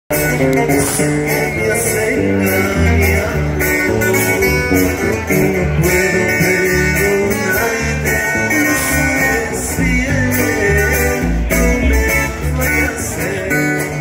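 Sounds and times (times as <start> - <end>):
bass guitar: 0.1 - 14.0
electric guitars: 0.1 - 14.0.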